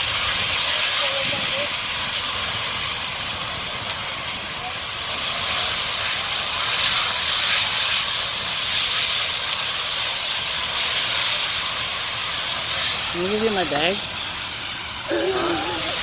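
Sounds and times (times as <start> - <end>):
gas venting hiss: 0.0 - 16.0.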